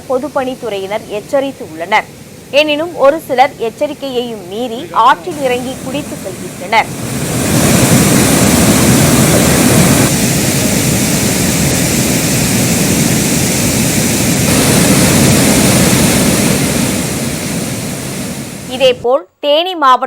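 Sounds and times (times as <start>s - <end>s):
river floodwater roaring: 2.8s - 19.0s.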